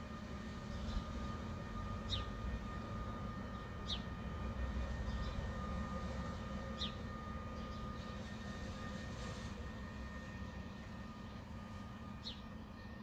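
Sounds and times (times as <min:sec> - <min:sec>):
faint whining tones: 0:00.0 - 0:13.0
industrial hum and drone: 0:00.0 - 0:13.0.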